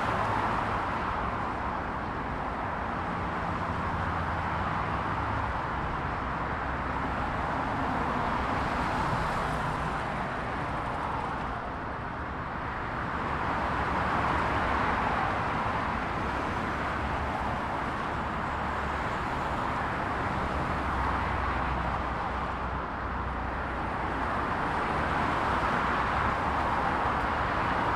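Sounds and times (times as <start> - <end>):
motorway traffic passing: 0.0 - 27.9.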